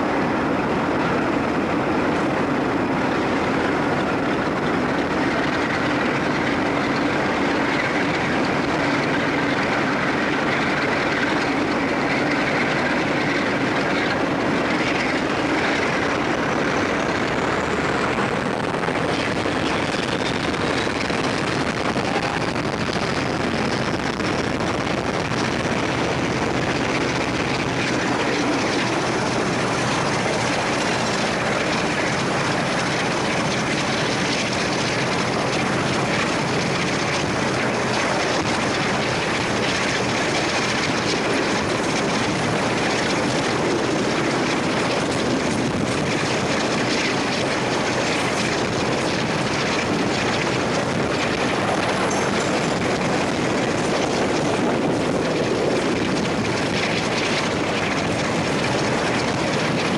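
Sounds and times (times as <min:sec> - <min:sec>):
locomotive engine drone: 0:00.0 - 0:59.9
train wheels on rails: 0:00.0 - 0:59.9
wind rushing past microphone: 0:00.0 - 0:59.9.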